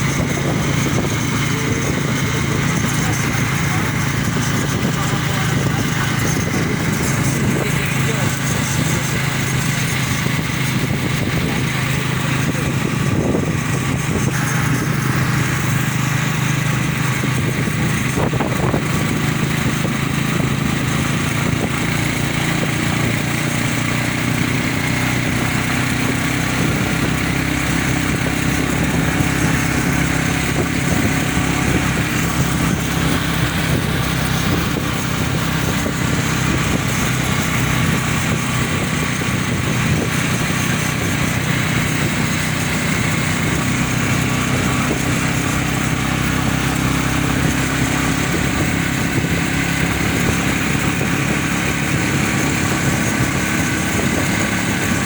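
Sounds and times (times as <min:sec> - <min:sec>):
small engine droning: 0:00.0 - 0:55.0.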